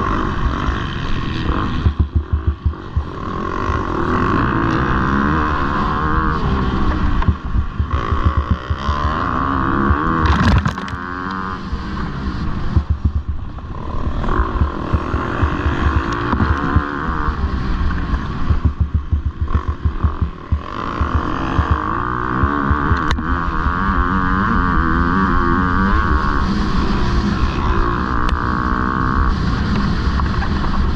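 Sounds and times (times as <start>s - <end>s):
dirt bike engines revving: 0.0s - 30.9s.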